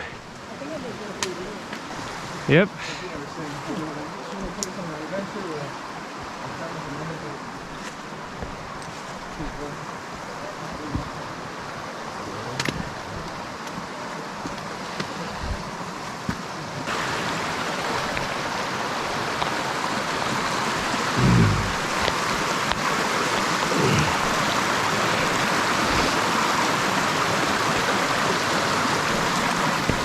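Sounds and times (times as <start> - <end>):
creek rushing over rocks: 0.0 - 30.0.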